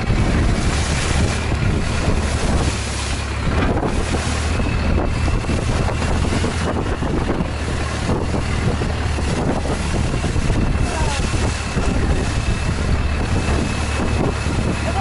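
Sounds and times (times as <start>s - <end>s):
boat engine droning: 0.0s - 15.0s
wind buffeting microphone: 0.0s - 15.0s.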